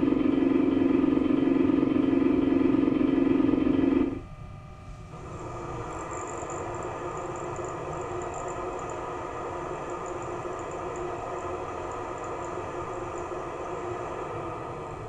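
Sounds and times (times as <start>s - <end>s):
cooling fan whirring: 0.0s - 15.0s.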